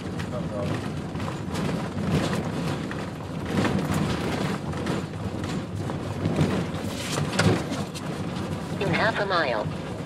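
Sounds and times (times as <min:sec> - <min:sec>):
knocks and rattles: 0:00.0 - 0:10.0
vehicle rumbling on dirt track: 0:00.0 - 0:10.0.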